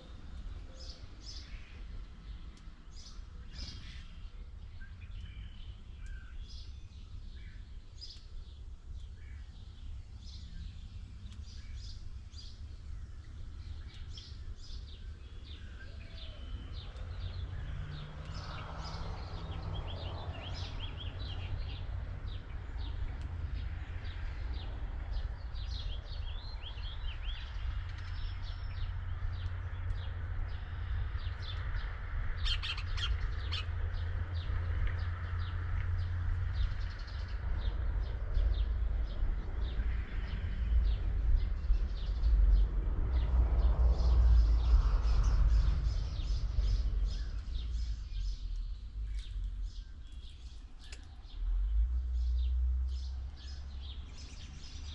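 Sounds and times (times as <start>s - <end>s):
small birds chirping: 0.0s - 54.9s
steady low rumble: 0.0s - 54.9s.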